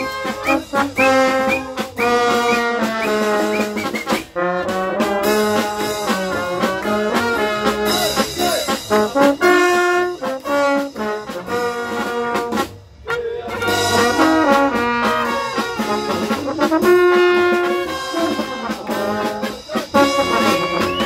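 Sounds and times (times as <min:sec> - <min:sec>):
snare drum: 0:00.0 - 0:12.8, 0:13.5 - 0:21.0
brass band playing lively tune: 0:00.0 - 0:21.0.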